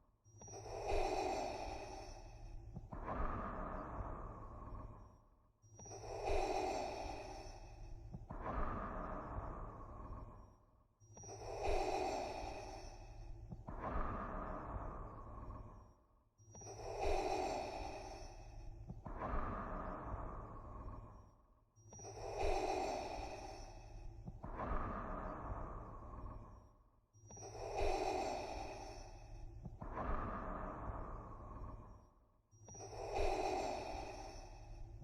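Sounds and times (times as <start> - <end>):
respirator breathing: 0.4 - 5.1, 5.8 - 10.5, 11.2 - 15.9, 16.6 - 21.3, 22.0 - 26.7, 27.3 - 35.0.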